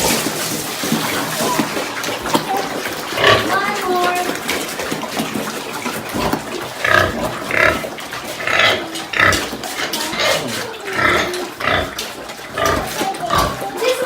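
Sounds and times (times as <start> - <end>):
pigs squealing: 1.1 - 14.0.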